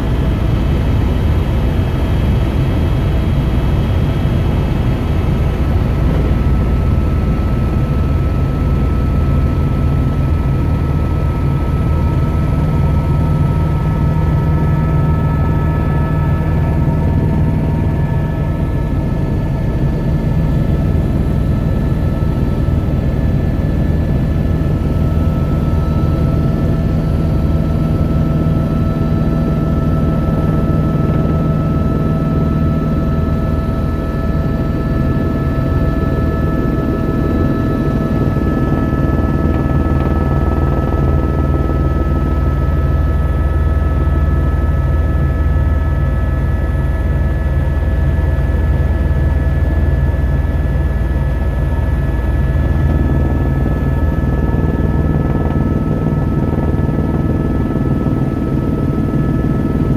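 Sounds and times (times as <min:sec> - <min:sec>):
helicopter engine and rotor drone: 0:00.0 - 0:59.9
steady whining tones: 0:03.8 - 0:46.4, 0:47.0 - 0:59.9.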